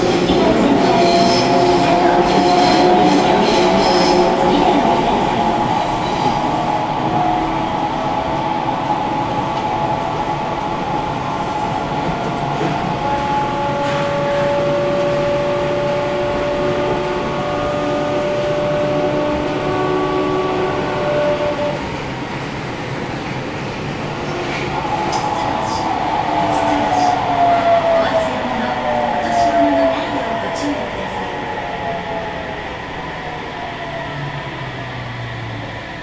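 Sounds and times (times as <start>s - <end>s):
subway train running: 0.0s - 36.0s.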